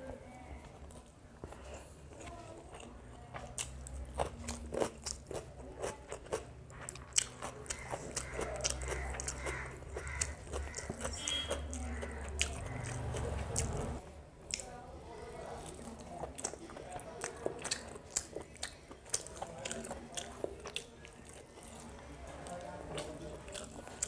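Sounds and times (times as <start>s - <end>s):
close chewing with wet mouth smacks: 0.9s - 14.7s, 15.6s - 24.0s.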